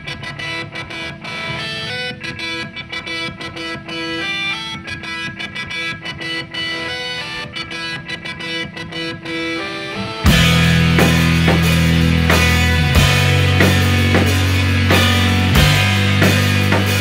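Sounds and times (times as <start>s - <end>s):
instrumental rock music with guitar: 0.0s - 17.0s.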